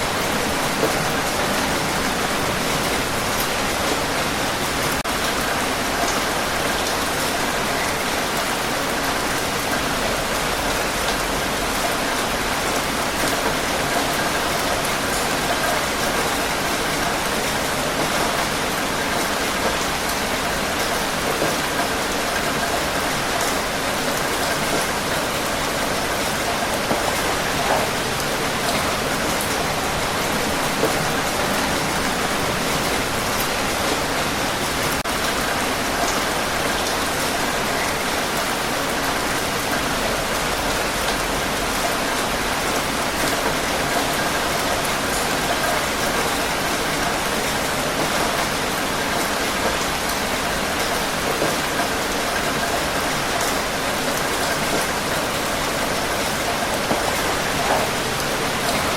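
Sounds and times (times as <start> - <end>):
heavy rain on hard surfaces: 0.0 - 58.9.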